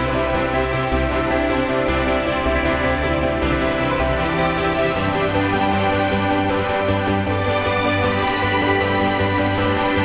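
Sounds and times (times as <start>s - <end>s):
background music with chords: 0.0s - 10.0s.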